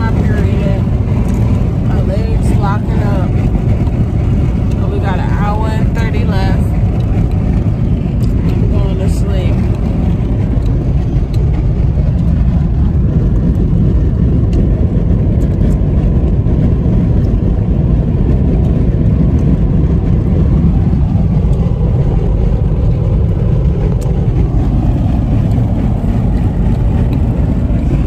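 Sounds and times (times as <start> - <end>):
car interior road rumble: 0.0 - 28.0.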